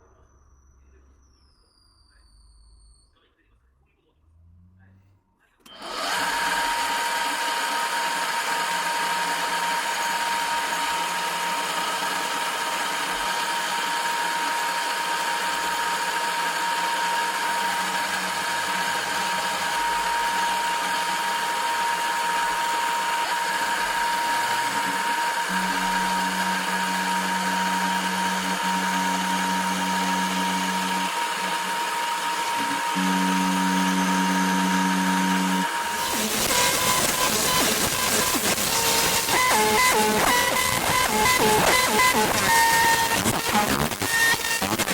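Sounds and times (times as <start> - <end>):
milling machine whining: 5.6 - 44.9.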